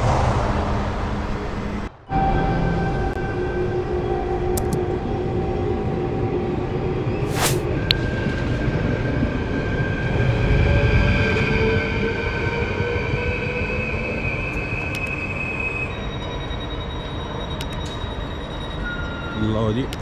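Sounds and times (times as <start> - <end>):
train rumbling: 0.0 - 20.0
train whining tones: 0.0 - 20.0.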